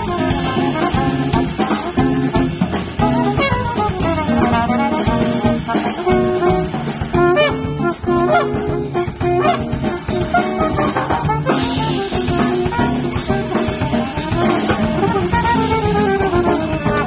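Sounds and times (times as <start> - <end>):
drum kit with cymbals: 0.0 - 17.0
trumpet melody: 0.0 - 17.0.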